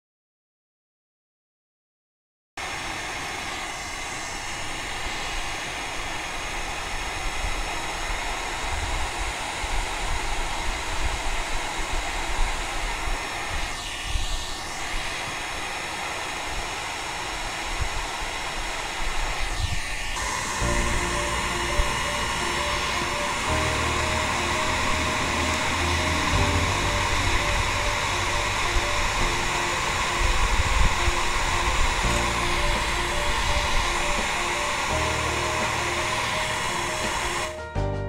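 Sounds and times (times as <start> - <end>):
hot-air blower fan rushing: 2.6 - 37.7.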